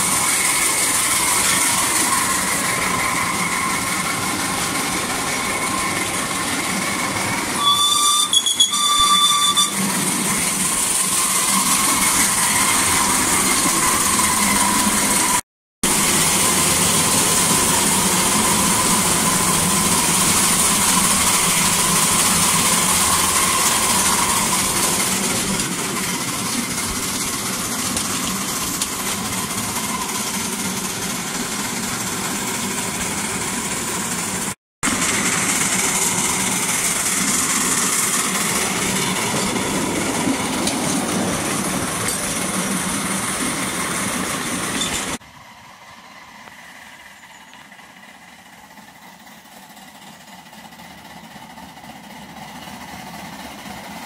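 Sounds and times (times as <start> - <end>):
miniature steam locomotive running: 0.0 - 54.0.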